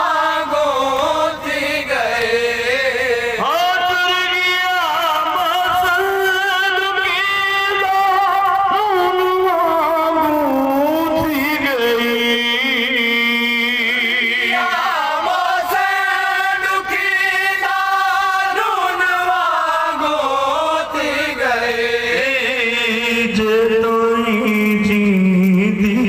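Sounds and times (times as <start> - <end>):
man chanting through loudspeakers: 0.0 - 26.0.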